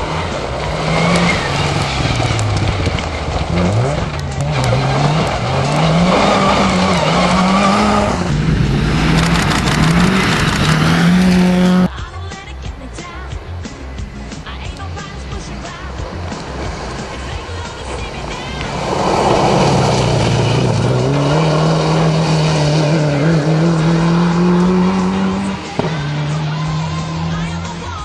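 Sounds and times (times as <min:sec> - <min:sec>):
rally car engine at full throttle: 0:00.0 - 0:12.0, 0:13.5 - 0:28.0.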